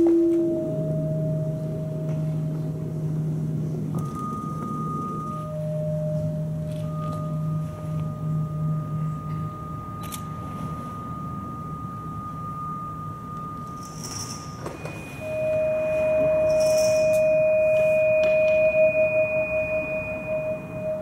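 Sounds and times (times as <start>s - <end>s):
electronic sine tones: 0.0s - 21.0s
faint low drone: 0.0s - 21.0s.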